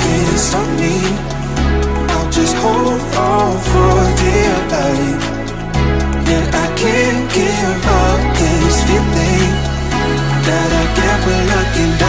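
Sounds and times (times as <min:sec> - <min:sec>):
pop music with bass line: 0:00.0 - 0:12.0.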